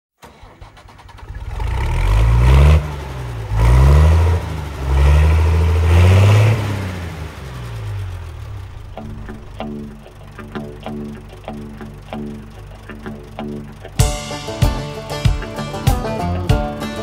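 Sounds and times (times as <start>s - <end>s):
vehicle engine accelerating: 0.7s - 17.0s.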